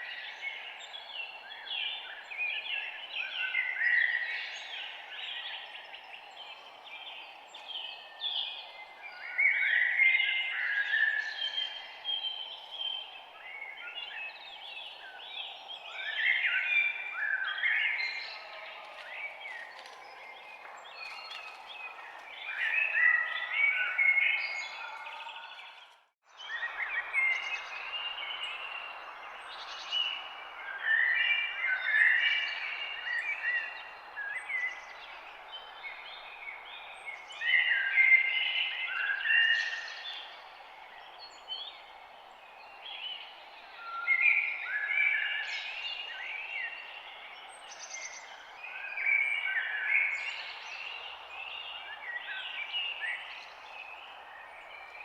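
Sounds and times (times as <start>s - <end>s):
birds chirping and singing: 3.2s - 55.0s.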